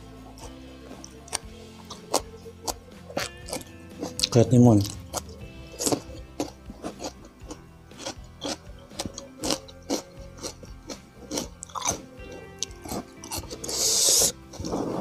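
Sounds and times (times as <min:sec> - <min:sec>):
soft background music: 0:00.0 - 0:15.0
crunching cucumber: 0:01.2 - 0:14.7.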